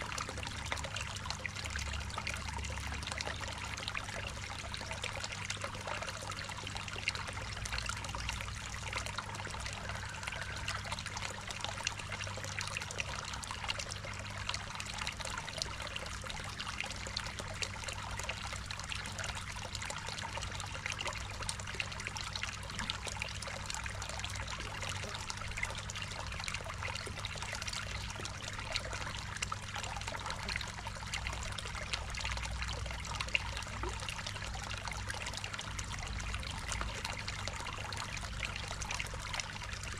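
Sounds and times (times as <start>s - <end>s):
low steady hum: 0.0s - 39.9s
water trickling into a pond: 0.0s - 39.9s.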